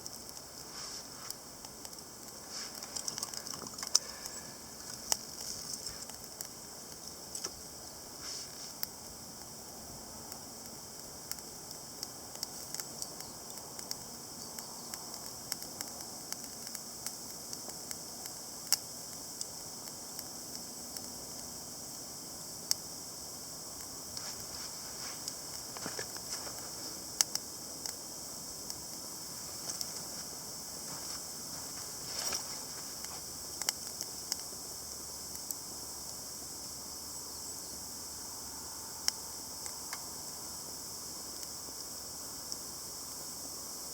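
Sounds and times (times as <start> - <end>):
wood fire crackling and popping: 0.0 - 37.3, 39.0 - 43.9
steady fire hiss: 0.0 - 43.9.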